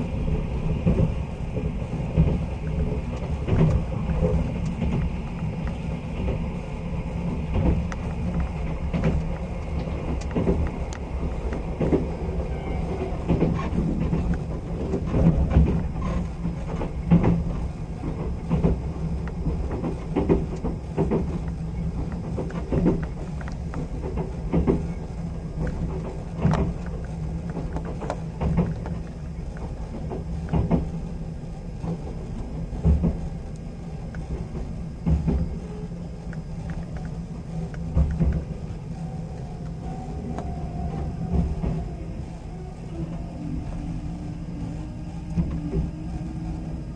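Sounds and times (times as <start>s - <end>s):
train rumbling on rails: 0.0s - 46.9s
wheels clacking on track: 0.0s - 46.9s.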